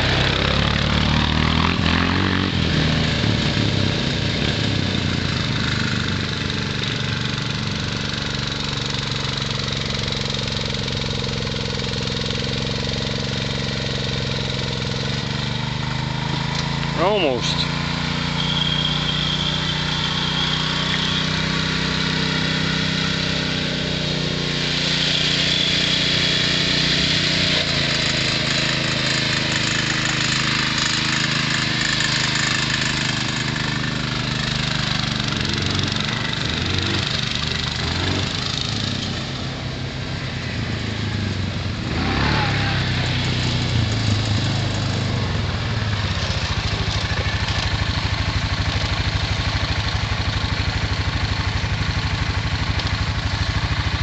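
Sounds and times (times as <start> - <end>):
small tractor engine running: 0.0 - 54.0.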